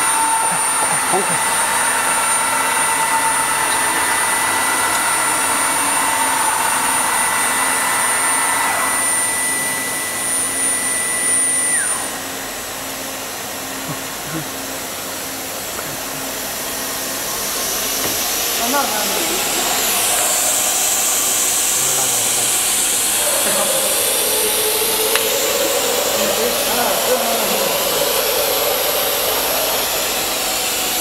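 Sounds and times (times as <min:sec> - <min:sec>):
milling machine spindle whine: 0:00.0 - 0:31.0.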